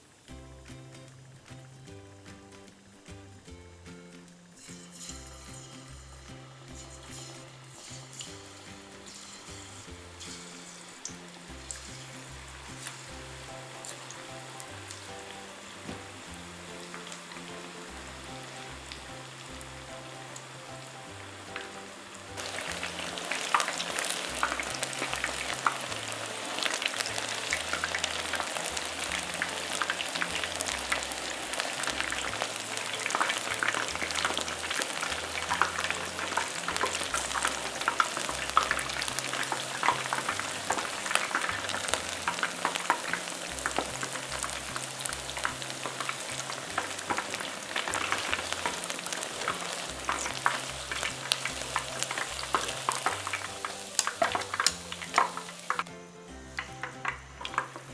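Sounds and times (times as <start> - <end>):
chicken deep-frying in hot oil: 0.0 - 57.9
chopsticks stirring oil: 4.6 - 55.9, 56.5 - 57.9.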